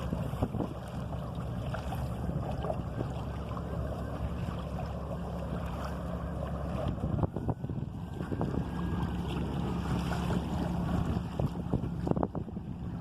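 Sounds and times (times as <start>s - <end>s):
low wind rumble: 0.0s - 13.0s
water lapping against a hull: 0.0s - 13.0s.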